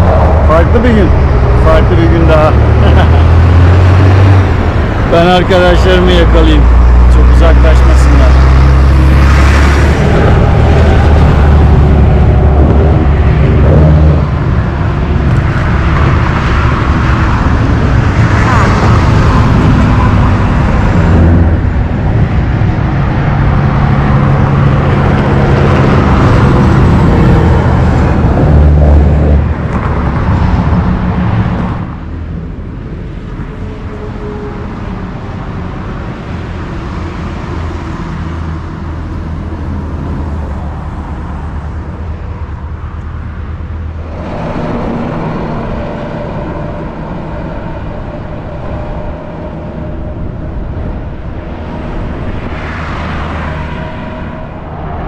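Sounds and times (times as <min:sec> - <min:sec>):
highway traffic rumble: 0:00.0 - 0:55.0.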